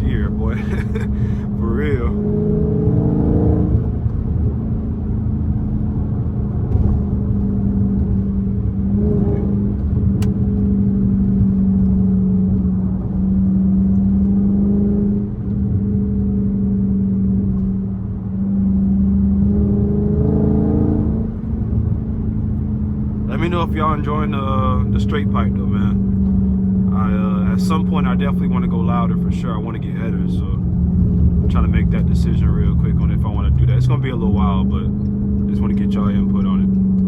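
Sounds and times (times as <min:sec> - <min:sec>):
car engine exhaust rumble: 0:00.0 - 0:37.0.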